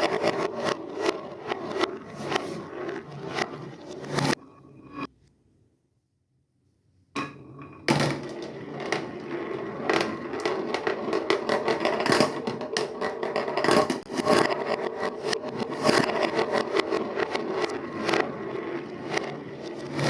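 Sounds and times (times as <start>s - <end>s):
marbles clattering on wooden run: 0.0s - 4.4s, 7.8s - 20.0s.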